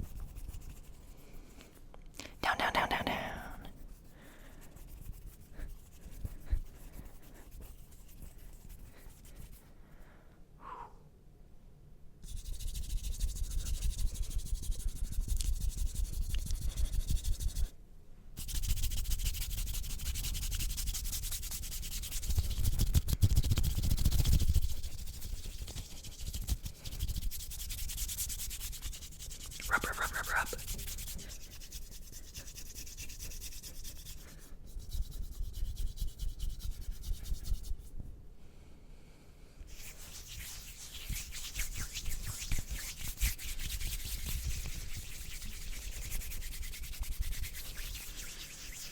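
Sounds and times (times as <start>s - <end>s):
hands rubbing and scratching: 0.0s - 1.8s, 2.5s - 9.7s, 12.2s - 17.7s, 18.4s - 38.0s, 39.7s - 48.9s.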